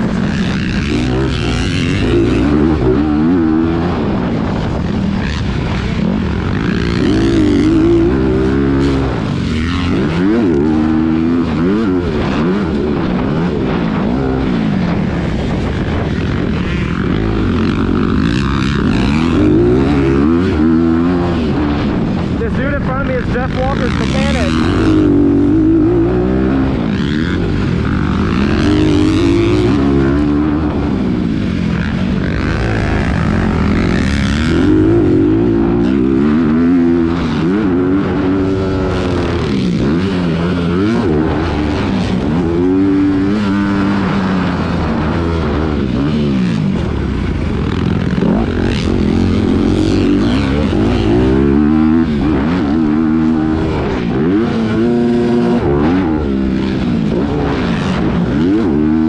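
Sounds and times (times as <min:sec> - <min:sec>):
motocross bike engine revving: 0:00.0 - 0:59.0
steady rushing noise: 0:00.0 - 0:59.0.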